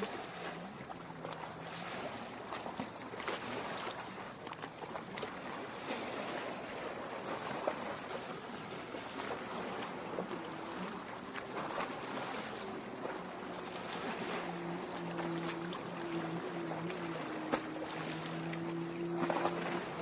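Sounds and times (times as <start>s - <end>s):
lake water lapping at shore: 0.0s - 20.0s.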